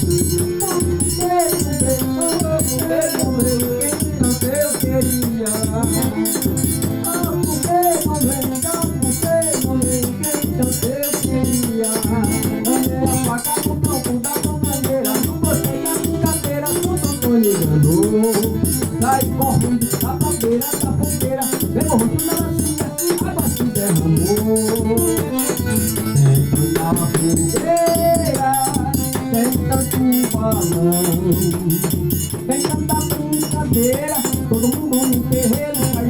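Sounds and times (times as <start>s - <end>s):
accordion melody: 0.0s - 36.0s.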